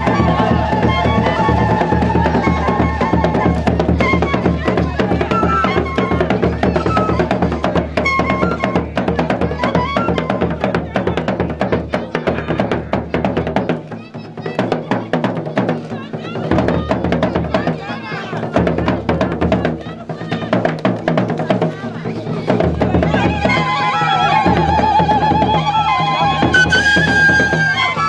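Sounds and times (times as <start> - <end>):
fast drumming: 0.0 - 28.0.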